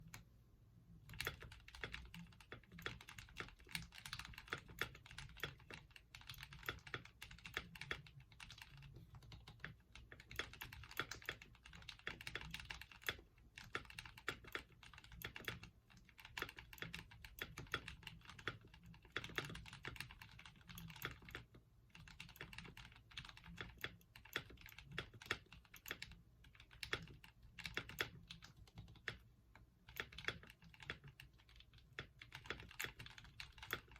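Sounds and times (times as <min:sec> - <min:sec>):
mechanical keyboard typing: 0:00.0 - 0:00.3, 0:00.9 - 0:33.9.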